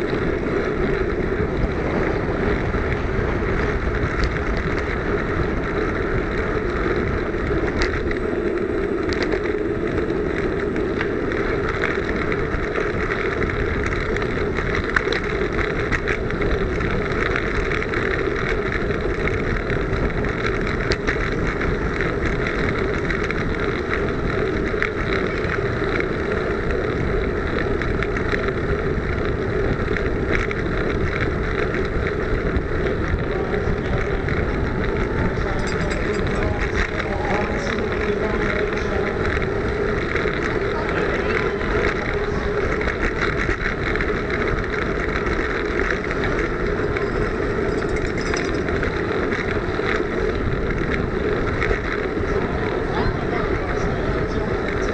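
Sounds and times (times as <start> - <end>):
small clicks and rattles: 0.0 - 52.8
tyre rumble on road: 0.0 - 54.9
wind rushing over microphone: 0.0 - 54.9.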